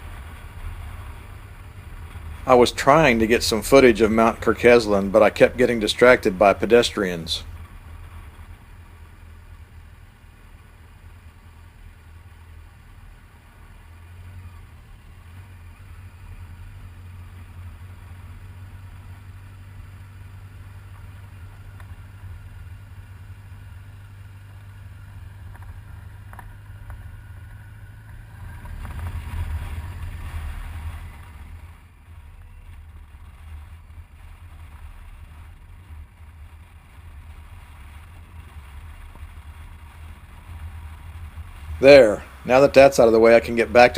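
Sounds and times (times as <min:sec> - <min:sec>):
vehicle engine rumble: 0:00.0 - 0:43.9.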